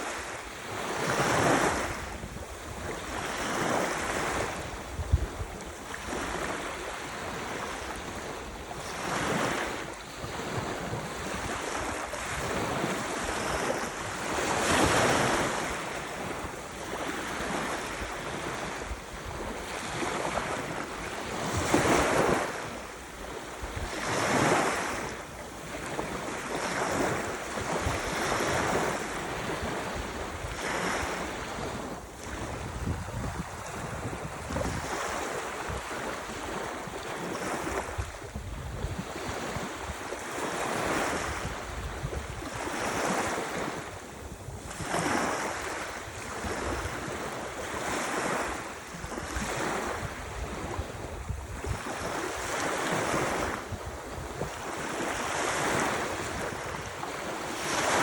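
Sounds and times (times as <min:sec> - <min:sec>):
waves breaking: 0:00.0 - 0:58.0.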